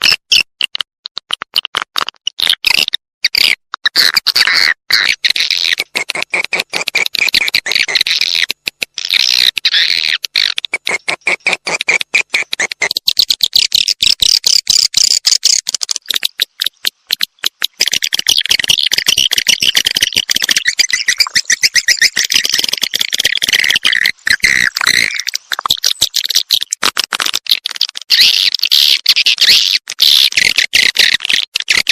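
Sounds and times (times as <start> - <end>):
swiftlet chattering clicks and chirps: 0.0 - 31.9.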